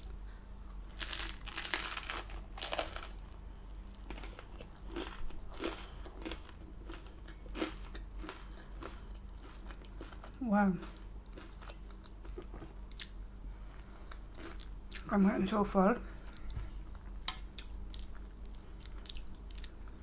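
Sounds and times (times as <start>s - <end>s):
person chewing food: 0.8s - 15.0s, 16.2s - 20.0s.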